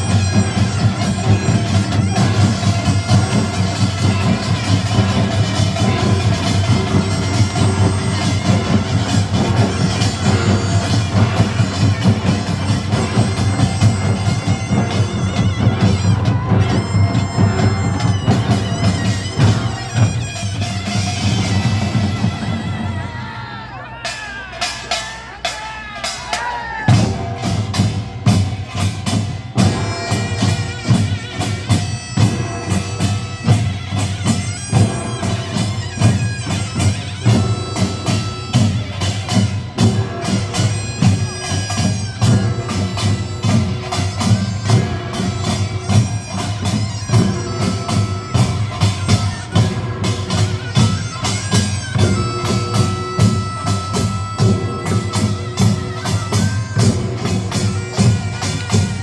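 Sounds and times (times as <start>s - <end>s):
gongs and drums beating: 0.0s - 59.0s
shawm playing reedy melody: 0.0s - 59.0s.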